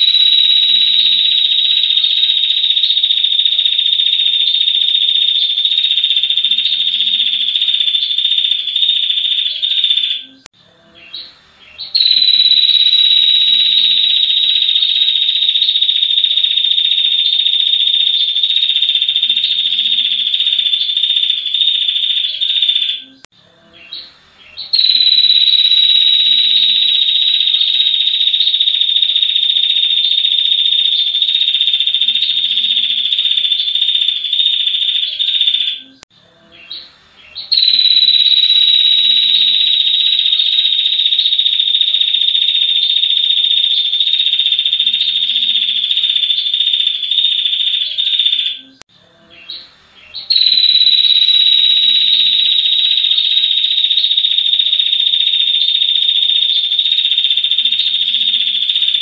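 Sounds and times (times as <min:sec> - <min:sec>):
bird high-pitched trill: 0:00.0 - 0:36.0, 0:36.6 - 0:48.8, 0:49.4 - 0:59.0.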